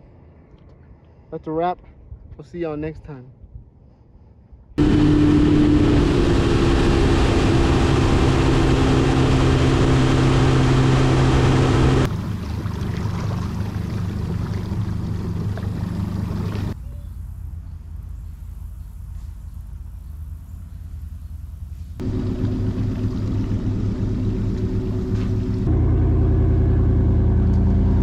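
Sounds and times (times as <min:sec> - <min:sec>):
outboard motor droning: 0:04.8 - 0:16.8, 0:17.4 - 0:28.0.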